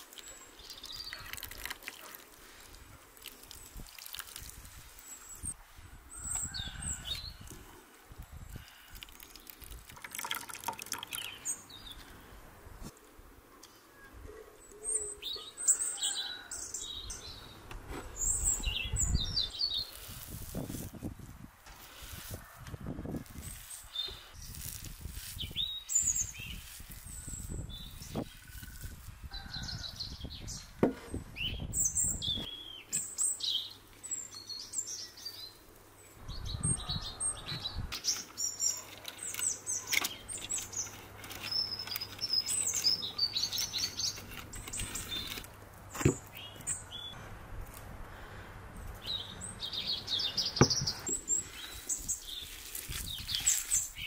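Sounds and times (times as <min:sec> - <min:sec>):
small birds chirping: 0:00.0 - 0:12.4, 0:13.4 - 0:20.3, 0:23.3 - 0:30.8, 0:31.4 - 0:47.2, 0:48.1 - 0:54.0.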